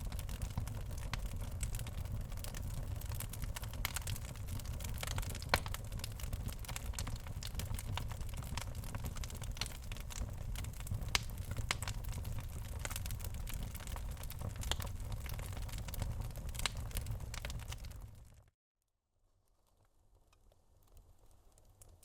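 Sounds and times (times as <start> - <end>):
logs crackling and popping: 0.0 - 18.5, 19.4 - 22.0
low rumble of fire: 0.0 - 18.5.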